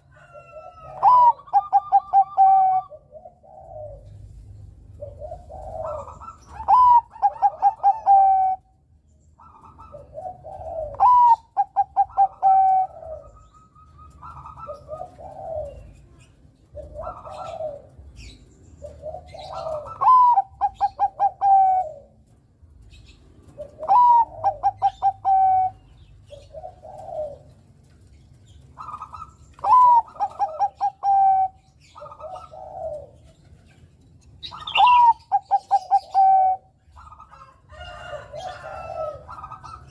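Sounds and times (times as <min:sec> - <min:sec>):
zebra dove cooing: 0:00.0 - 0:08.8, 0:09.4 - 0:22.2, 0:23.5 - 0:27.6, 0:28.8 - 0:33.7, 0:34.4 - 0:39.9.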